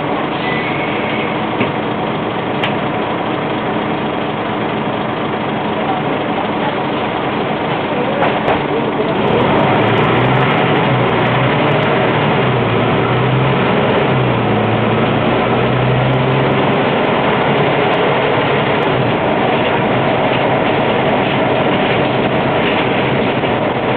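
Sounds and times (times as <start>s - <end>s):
bus diesel engine: 0.0s - 23.9s
rattles and road noise: 0.0s - 23.9s.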